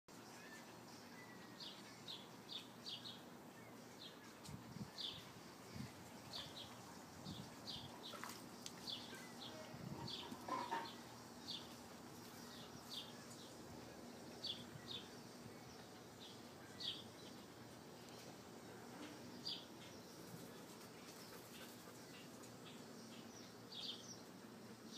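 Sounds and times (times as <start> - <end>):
outdoor background noise: 0.1 - 24.9.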